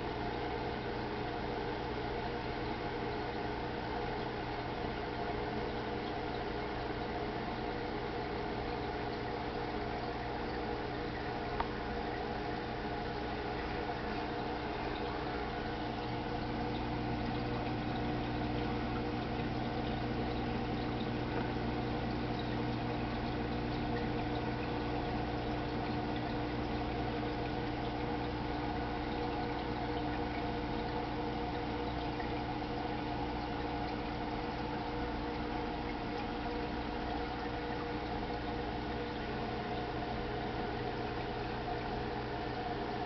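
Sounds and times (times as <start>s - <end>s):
bubbling water: 0.0s - 43.0s
motor hum: 0.0s - 43.0s.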